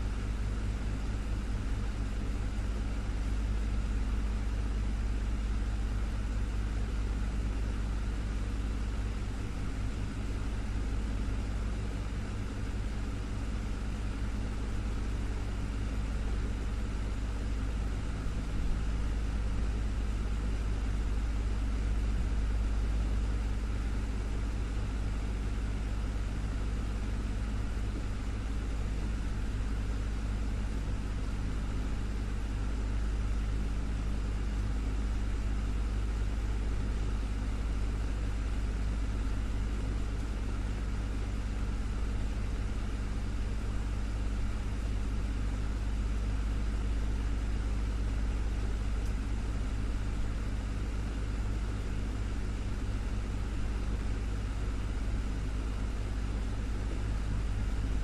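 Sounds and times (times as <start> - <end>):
desktop fan humming: 0.0 - 58.0.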